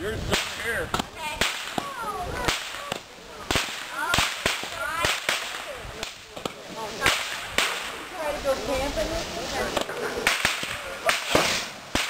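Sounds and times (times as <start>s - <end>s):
fireworks cracking: 0.0s - 12.0s.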